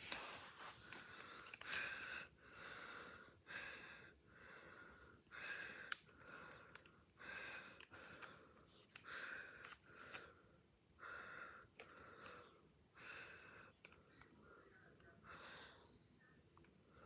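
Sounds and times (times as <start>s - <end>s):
faint breathing: 0.0s - 17.0s.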